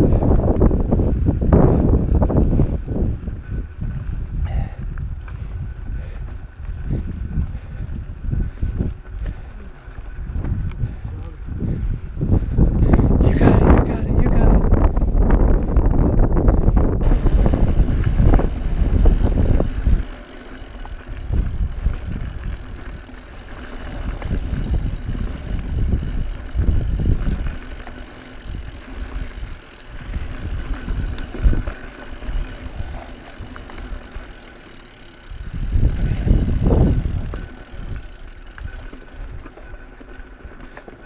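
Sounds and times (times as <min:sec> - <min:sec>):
bike tyre rumble and frame rattle: 0:00.0 - 0:41.0
wind buffeting microphone: 0:00.0 - 0:41.0.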